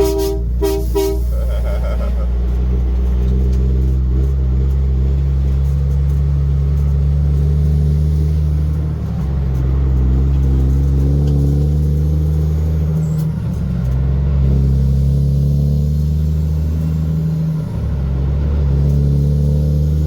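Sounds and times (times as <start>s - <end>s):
heavy truck engine droning: 0.0s - 20.0s.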